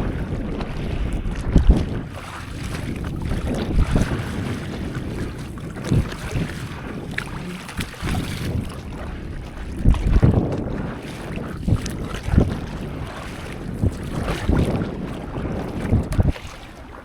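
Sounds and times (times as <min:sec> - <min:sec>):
sea water washing: 0:00.0 - 0:17.0
wind buffeting the microphone: 0:00.0 - 0:17.0.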